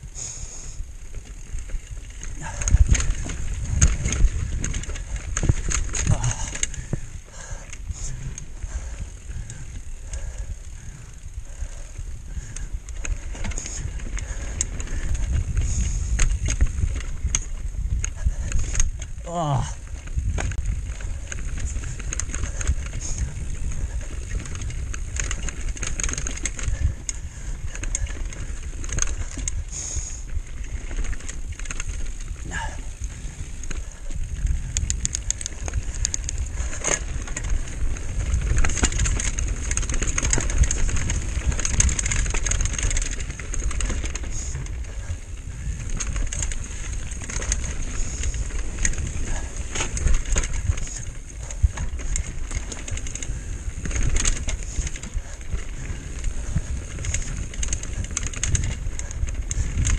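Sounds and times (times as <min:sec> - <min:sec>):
tyres rumbling on trail: 0:00.0 - 0:59.9
bike wheels clattering on rocks: 0:01.2 - 0:59.9
wind on microphone: 0:01.5 - 0:59.9.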